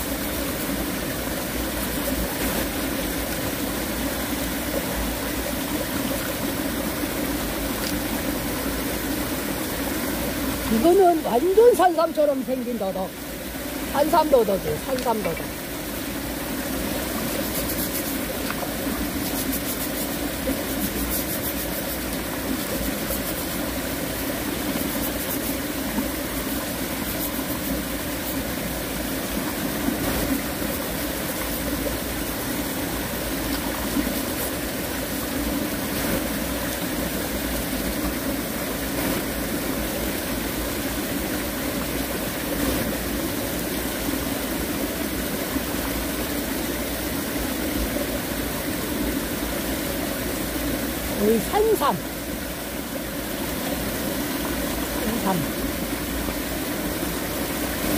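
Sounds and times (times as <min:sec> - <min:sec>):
stream running over rocks: 0:00.0 - 0:57.9.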